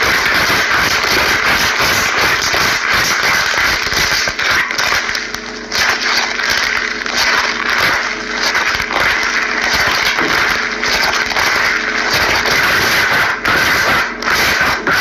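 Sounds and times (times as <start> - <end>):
slime squishing and crackling: 0.0 - 15.0.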